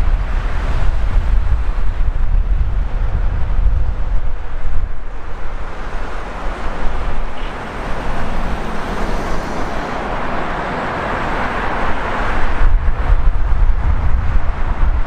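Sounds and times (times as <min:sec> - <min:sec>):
highway traffic passing: 0:00.0 - 0:15.0
wind rumbling on microphone: 0:00.0 - 0:15.0.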